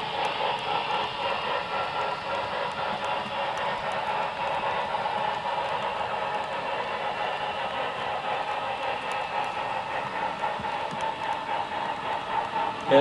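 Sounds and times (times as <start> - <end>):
freight train rolling: 0.0 - 13.0.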